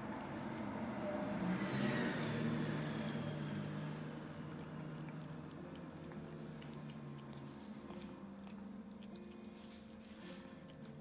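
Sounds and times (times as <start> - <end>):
cat chewing: 1.9 - 11.0.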